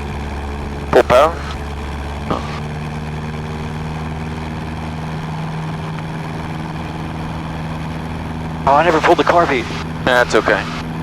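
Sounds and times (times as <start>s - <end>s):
aircraft engine and propeller: 0.0s - 11.0s.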